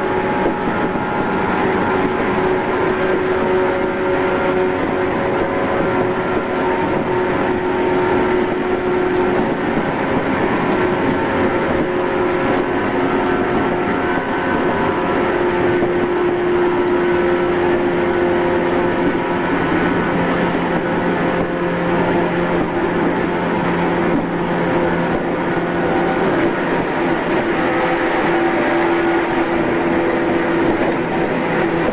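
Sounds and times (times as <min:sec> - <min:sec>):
electric train motor hum: 0:00.0 - 0:31.9
wheels rushing on track: 0:00.0 - 0:31.9.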